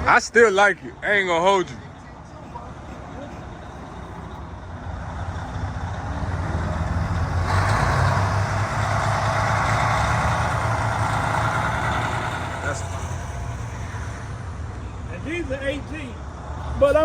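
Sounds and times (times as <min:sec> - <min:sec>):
truck diesel engine running: 0:00.0 - 0:16.2.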